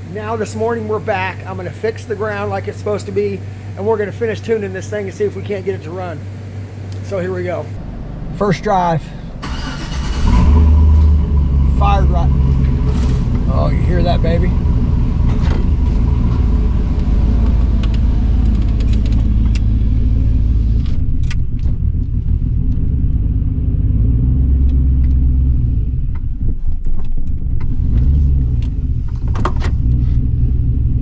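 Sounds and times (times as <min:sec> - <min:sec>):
vee eight engine running rough: 0:00.0 - 0:26.5.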